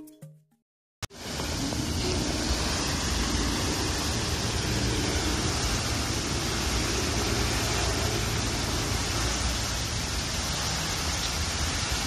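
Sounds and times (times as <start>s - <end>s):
fountain water splashing into pond: 1.1s - 12.0s.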